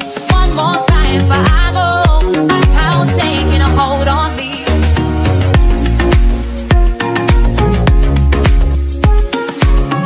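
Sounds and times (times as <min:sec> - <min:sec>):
pop dance music: 0:00.0 - 0:10.0.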